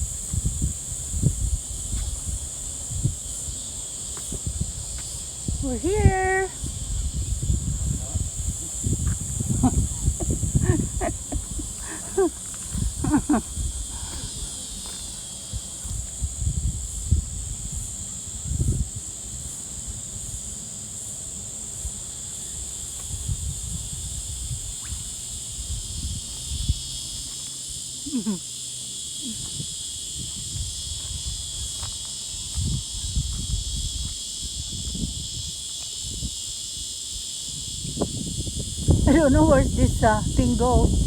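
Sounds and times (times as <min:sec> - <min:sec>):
wind and handling on microphone: 0:00.0 - 0:19.5, 0:23.0 - 0:27.3, 0:29.3 - 0:36.8, 0:37.5 - 0:41.0
insect chorus buzzing: 0:00.0 - 0:41.0.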